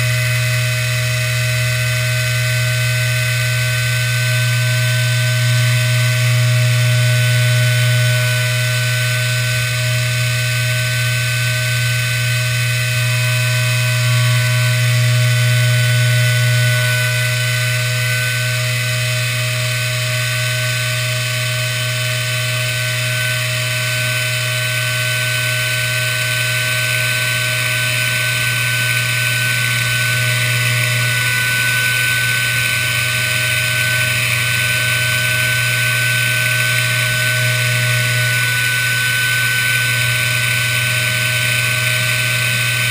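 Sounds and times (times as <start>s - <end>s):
cnc router whine and hum: 0.0s - 42.9s.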